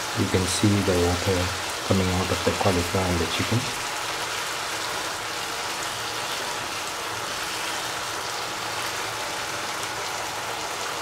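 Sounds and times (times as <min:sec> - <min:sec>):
food sizzling in a hot pan: 0:00.0 - 0:11.0.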